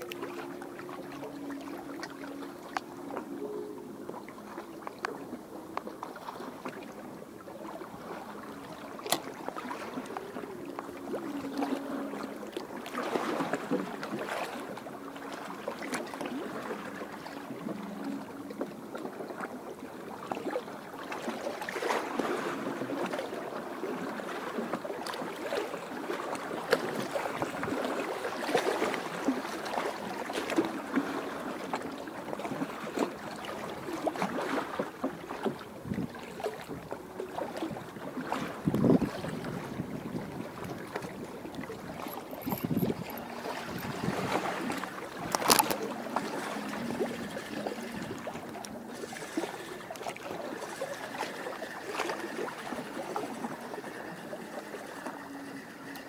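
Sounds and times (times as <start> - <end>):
small waves lapping and splashing: 0.0 - 56.0.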